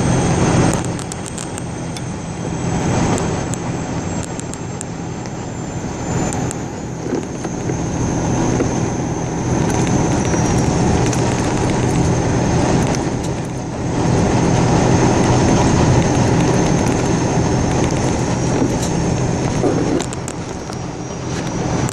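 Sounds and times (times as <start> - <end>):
vehicle engine drone: 0.0 - 21.9.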